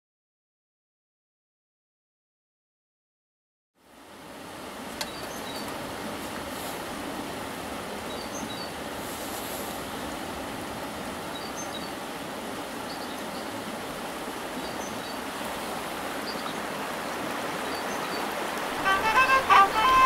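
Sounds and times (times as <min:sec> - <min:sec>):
stream water rushing: 0:03.8 - 0:20.0.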